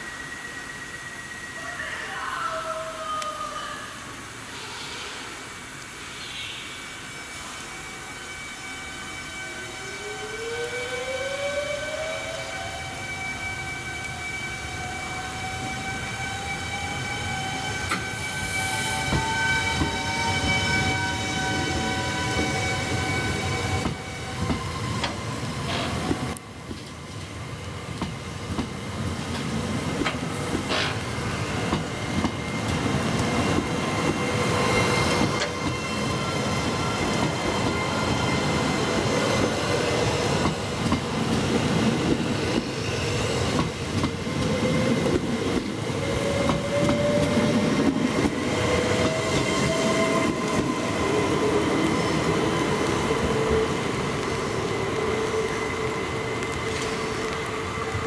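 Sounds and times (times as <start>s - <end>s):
train running on rails: 0.0s - 58.0s.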